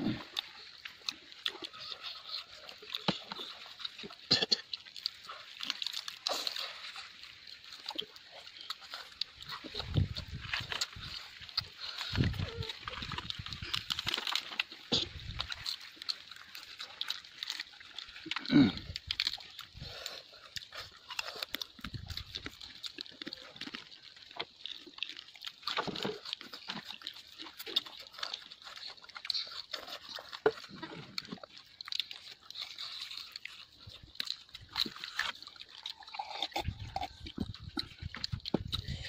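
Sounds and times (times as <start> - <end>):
wet chewing and lip-smacking: 0.0 - 39.0.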